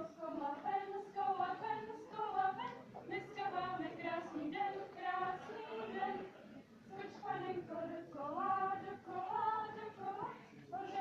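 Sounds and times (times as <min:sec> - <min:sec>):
women singing folk song: 0:00.0 - 0:11.0.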